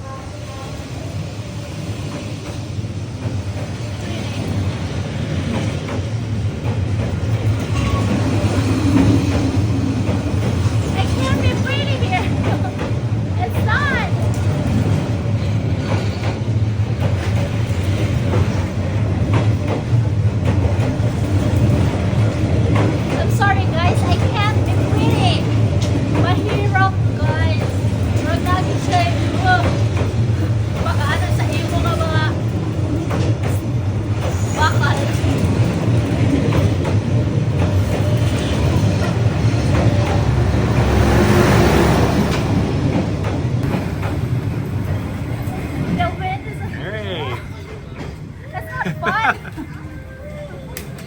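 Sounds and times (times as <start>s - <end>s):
train rumbling past: 0.0s - 51.0s
wheels clicking on track: 1.0s - 51.0s.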